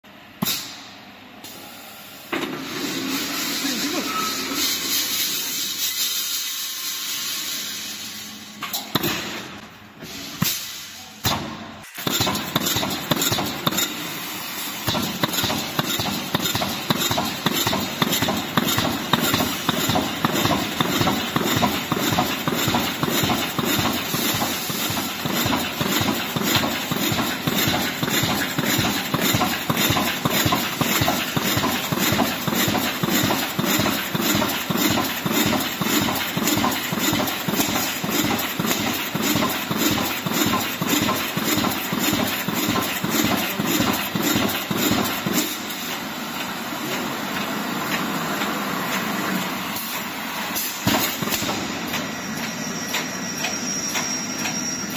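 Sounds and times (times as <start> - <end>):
machine running steadily: 0.0 - 54.9
welding machine rhythmic clatter: 1.4 - 54.9.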